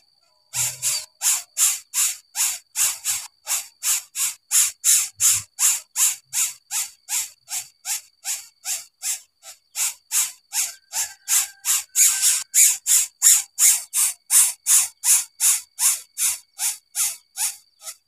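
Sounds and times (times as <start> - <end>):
bird nestling rasping hiss: 0.5 - 18.0.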